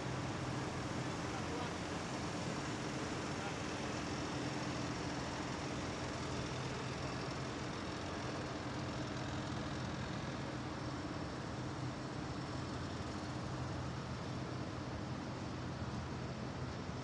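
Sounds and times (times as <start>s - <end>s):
tractor engines running: 0.0s - 17.0s.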